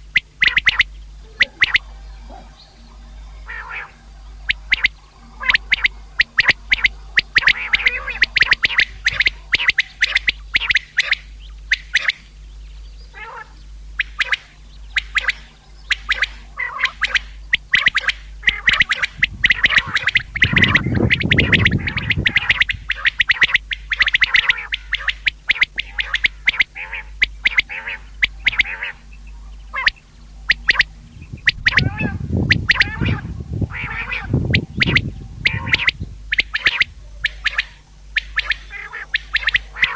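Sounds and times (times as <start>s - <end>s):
low rumbling noise: 0.0s - 39.9s
quail calling: 0.0s - 39.9s.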